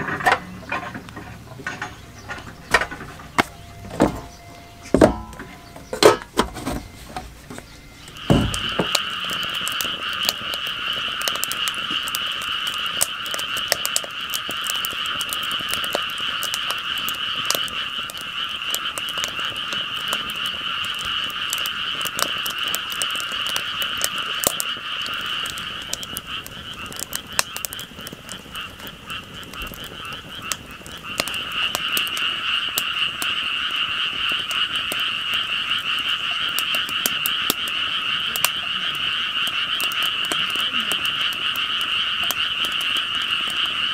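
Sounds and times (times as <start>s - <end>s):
chorus of frogs calling: 0.0s - 6.4s, 7.3s - 43.9s.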